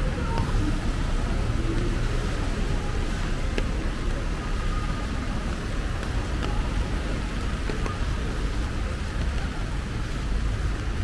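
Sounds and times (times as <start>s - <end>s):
heavy rain on an umbrella: 0.0s - 11.0s.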